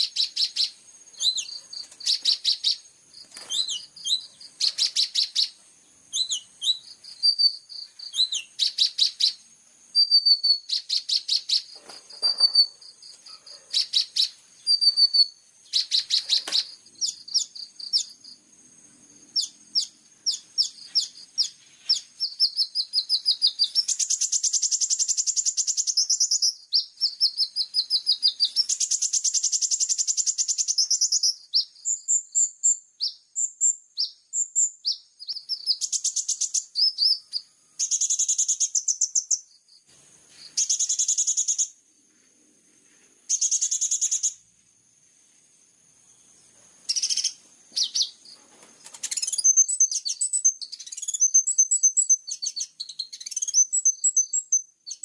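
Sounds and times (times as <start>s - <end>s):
bird singing chirps and trills: 0.0s - 18.4s, 19.1s - 39.8s, 40.4s - 41.8s, 43.3s - 44.4s, 46.9s - 55.0s.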